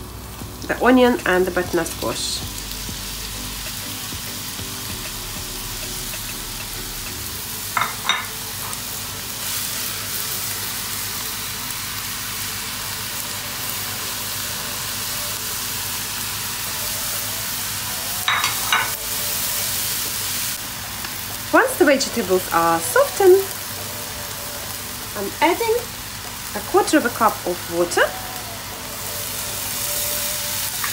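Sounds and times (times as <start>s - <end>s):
vegetables sizzling in oil: 0.0s - 30.9s.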